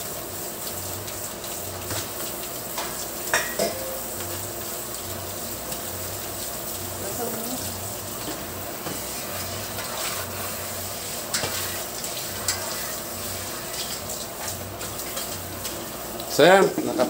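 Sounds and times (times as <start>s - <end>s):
sauce bubbling and hissing: 0.0s - 17.0s.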